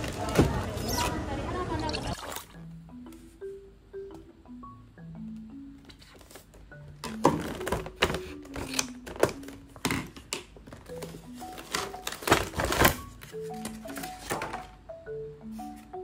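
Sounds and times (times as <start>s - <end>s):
soft mallet melody music: 2.5s - 16.0s.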